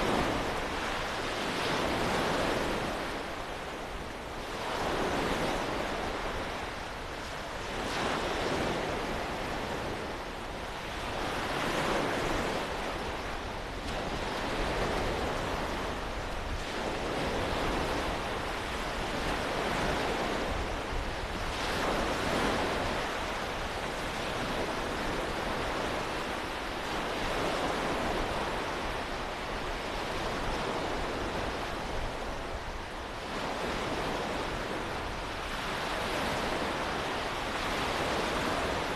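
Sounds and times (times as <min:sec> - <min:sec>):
waves breaking on shore: 0:00.0 - 0:38.9
wind on microphone: 0:00.0 - 0:38.9.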